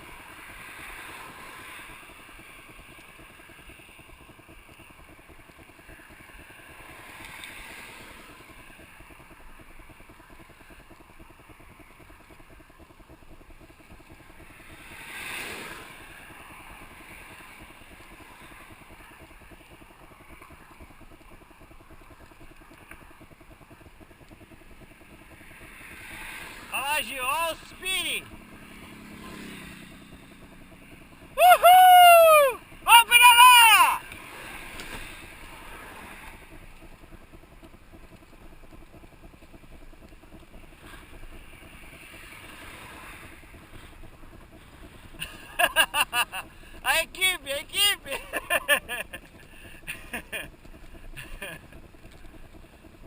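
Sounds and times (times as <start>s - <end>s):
bike tyres rolling: 0.0s - 33.4s, 34.0s - 46.9s, 48.2s - 53.0s.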